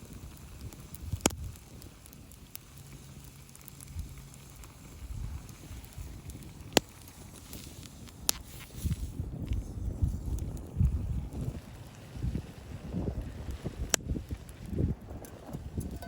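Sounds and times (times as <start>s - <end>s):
sharp fire pops: 0.0s - 16.0s
wood fire crackling: 0.0s - 16.0s.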